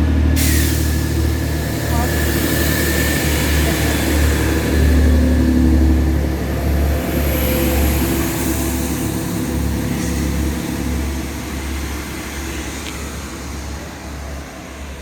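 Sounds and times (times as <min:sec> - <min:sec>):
train engine humming: 0:00.0 - 0:15.0.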